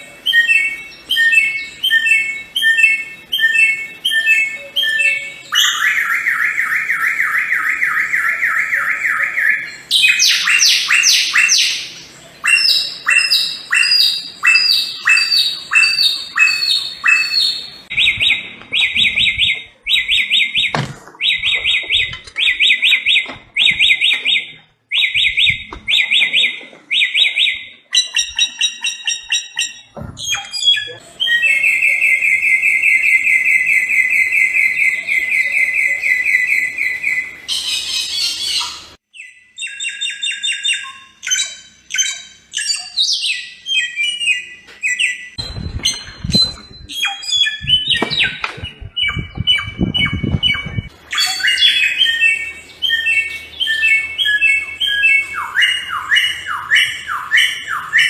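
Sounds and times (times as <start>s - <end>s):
bird singing trills: 0.0s - 58.0s
sharp bird chirps: 0.3s - 58.0s.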